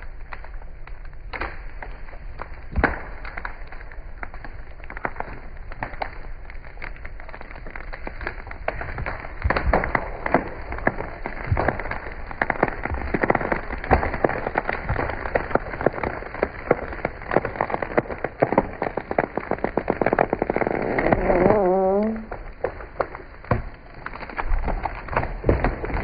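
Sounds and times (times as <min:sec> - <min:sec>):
wood cracking and snapping: 0:00.0 - 0:26.0.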